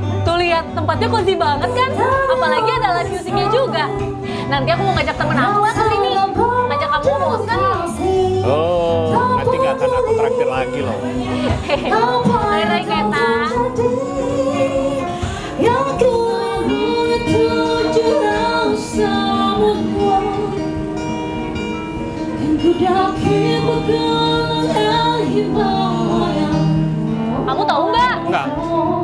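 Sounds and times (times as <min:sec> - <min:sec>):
strummed acoustic guitar: 0:00.0 - 0:29.0
woman singing: 0:00.0 - 0:29.0.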